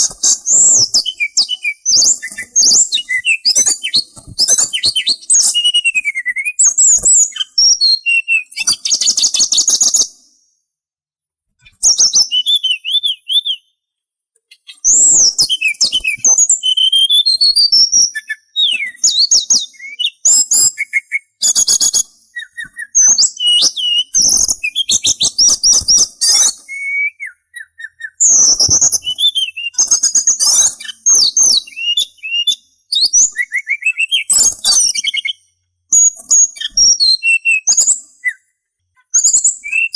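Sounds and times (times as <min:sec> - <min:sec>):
songbird whistling and trilling: 0:00.0 - 0:10.5, 0:11.6 - 0:13.8, 0:14.5 - 0:39.9.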